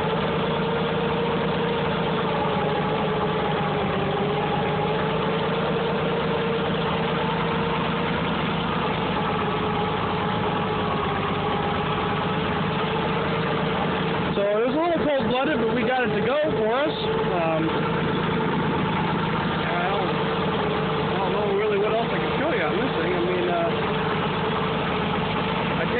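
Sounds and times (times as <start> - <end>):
tractor engine idling: 0.0 - 25.9.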